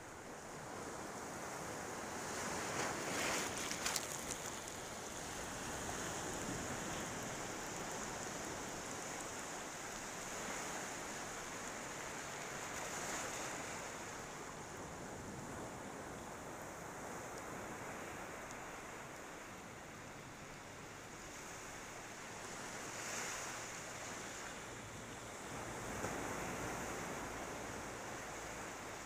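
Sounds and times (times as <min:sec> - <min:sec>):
surf hissing on beach: 0:00.0 - 0:29.0.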